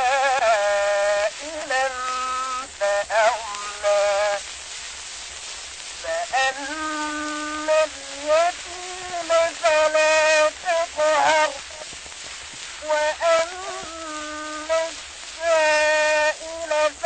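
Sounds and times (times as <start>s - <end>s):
person chanting: 0.0s - 4.4s, 6.0s - 11.9s, 12.8s - 17.0s
hiss: 0.0s - 17.0s.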